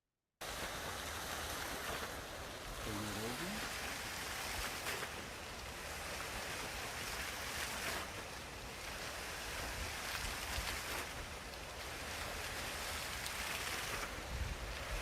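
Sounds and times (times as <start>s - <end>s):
rushing water through speakers: 0.4s - 15.0s.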